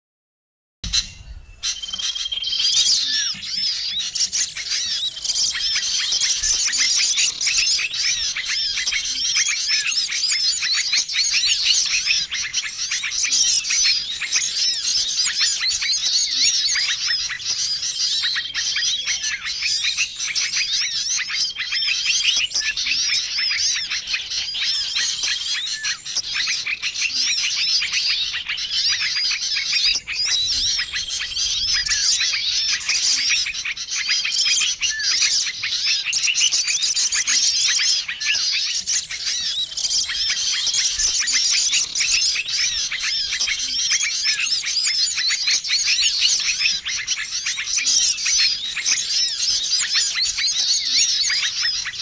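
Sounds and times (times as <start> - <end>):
songbirds twittering and chirping: 0.8 - 52.0.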